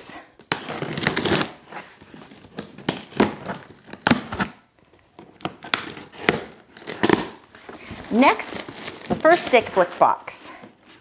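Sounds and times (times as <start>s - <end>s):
cardboard crinkling and tearing: 0.5s - 11.0s.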